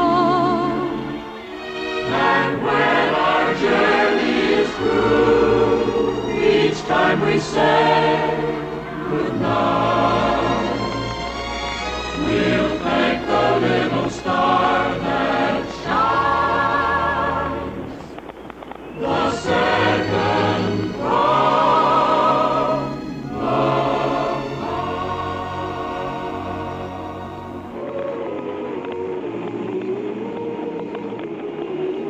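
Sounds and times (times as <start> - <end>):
choir singing long held notes: 0.0 - 32.0.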